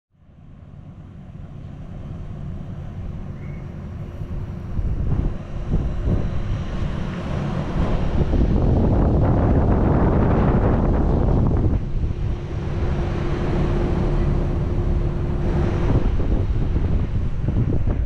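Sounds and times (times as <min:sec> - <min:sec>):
heat pump fans and compressors humming: 0:00.2 - 0:18.0.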